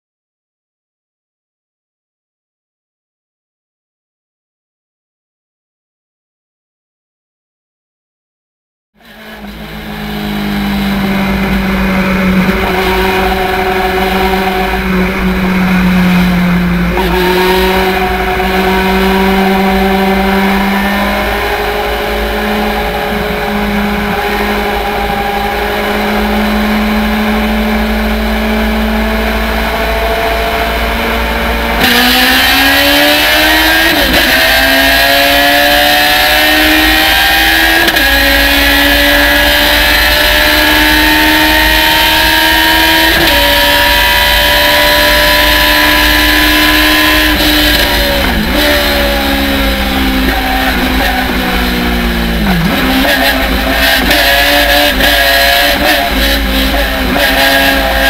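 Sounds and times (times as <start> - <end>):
race car engine revving: 9.0 - 58.0.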